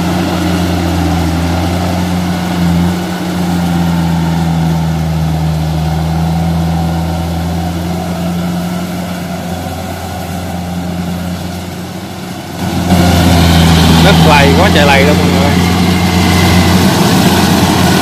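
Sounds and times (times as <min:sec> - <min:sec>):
harvester diesel engine droning: 0:00.0 - 0:18.0.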